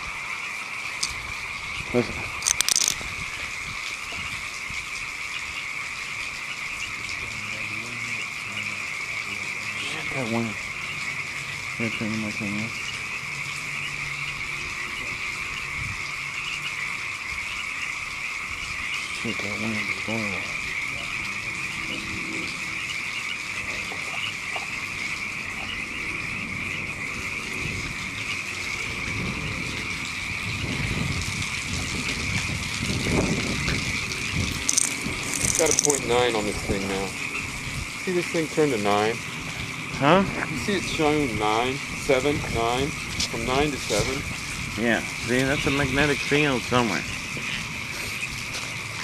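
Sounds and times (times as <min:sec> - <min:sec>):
frogs calling: 0:00.0 - 0:49.0
wind rumbling on microphone: 0:00.0 - 0:49.0.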